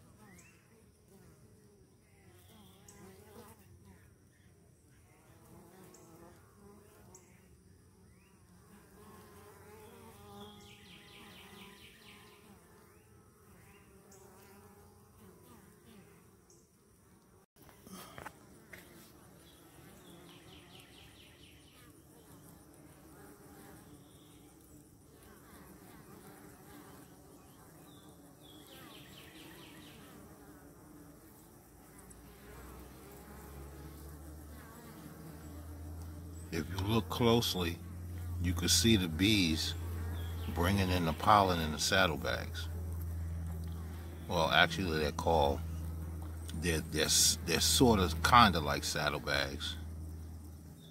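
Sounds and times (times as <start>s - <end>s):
honeybees buzzing: 0.0s - 50.9s.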